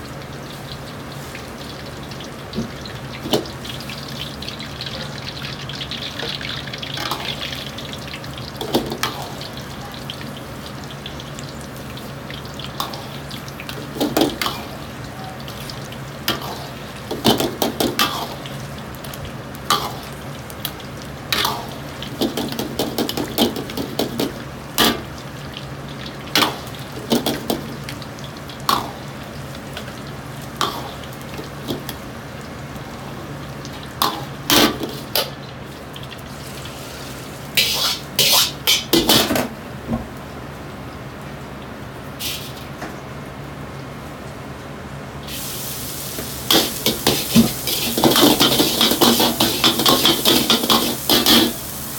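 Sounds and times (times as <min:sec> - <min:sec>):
chicken deep-frying in oil: 0:00.0 - 0:51.9.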